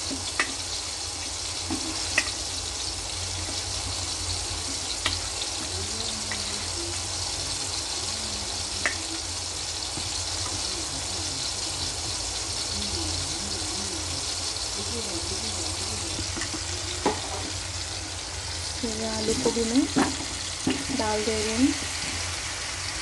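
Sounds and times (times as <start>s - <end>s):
vegetables frying in hot oil: 0.0s - 23.0s.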